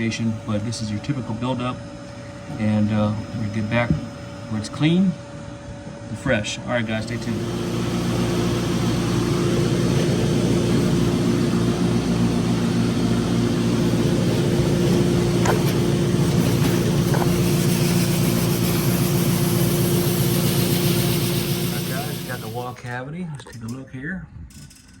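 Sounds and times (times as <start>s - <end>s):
vacuum machine drone: 0.0s - 22.9s.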